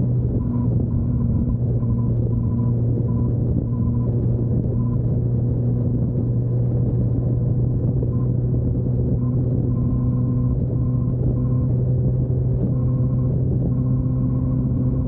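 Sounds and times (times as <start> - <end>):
motorcycle engine humming steadily: 0.0 - 15.0.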